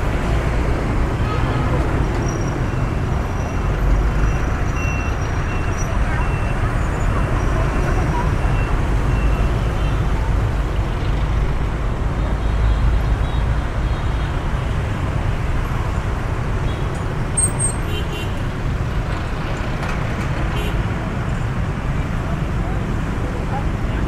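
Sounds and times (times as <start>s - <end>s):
minibus passing: 0.0s - 12.4s, 13.2s - 24.0s
motorbike engines: 0.0s - 24.0s.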